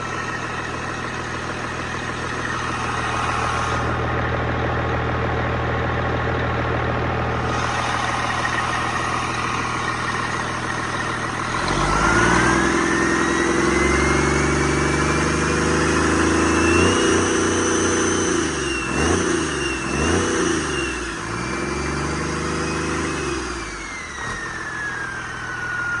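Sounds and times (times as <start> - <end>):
diesel engine idling and revving: 0.0 - 26.0
engine whine: 0.0 - 26.0.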